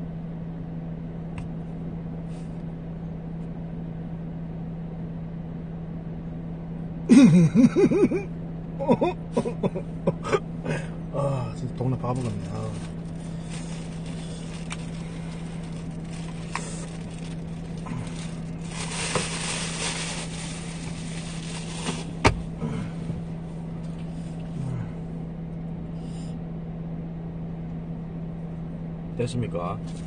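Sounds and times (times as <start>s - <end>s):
car cabin hum: 0.0s - 5.2s, 5.8s - 26.3s, 27.5s - 30.0s.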